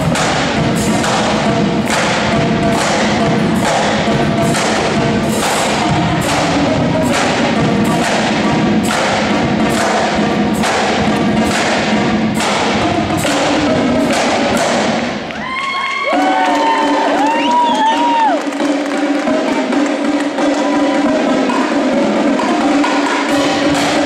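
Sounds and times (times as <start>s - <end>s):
marching snare drums: 0.0s - 15.3s, 16.7s - 24.0s.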